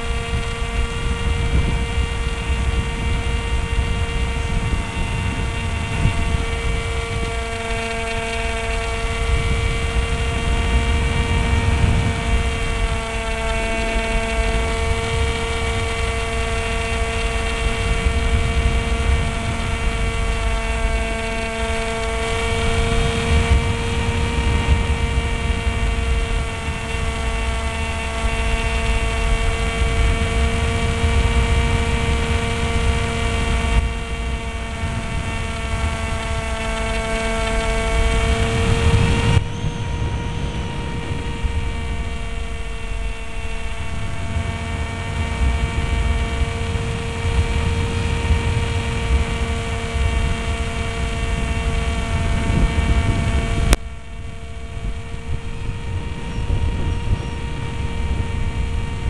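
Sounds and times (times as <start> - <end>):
electric motor and propeller whine: 0.0 - 59.0
wind rush: 0.0 - 59.0.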